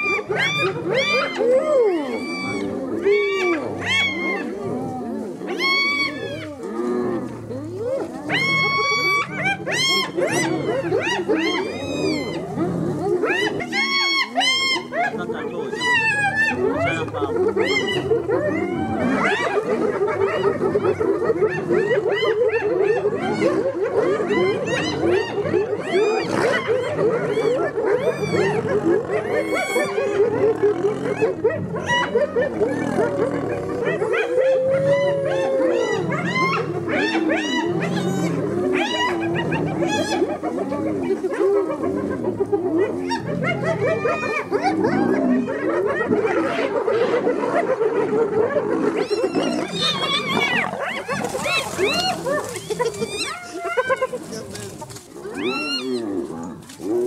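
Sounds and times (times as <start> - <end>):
hyenas giggling and whooping: 0.0 - 6.6, 7.2 - 57.0
lions growling low: 0.0 - 57.0.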